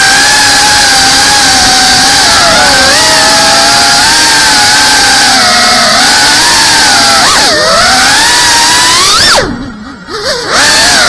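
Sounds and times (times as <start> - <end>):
drone motors and propellers whining: 0.0 - 11.0.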